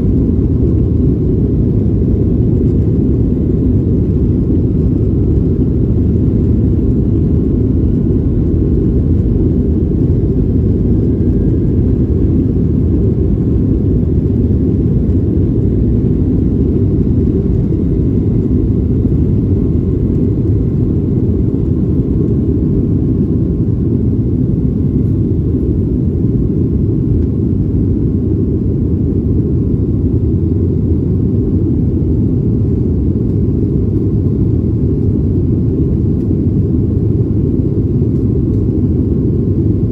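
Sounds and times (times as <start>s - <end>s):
airliner engines rumbling in cabin: 0.0s - 39.9s.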